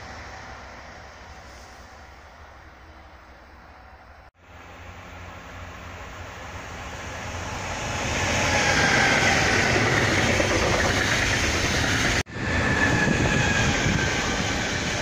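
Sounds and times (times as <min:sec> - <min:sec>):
freight train passing on rails: 0:00.0 - 0:15.0.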